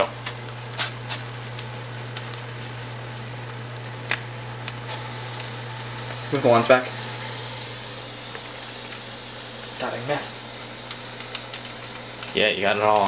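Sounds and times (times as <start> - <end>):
ground beef sizzling in a pot: 0.7 - 13.0.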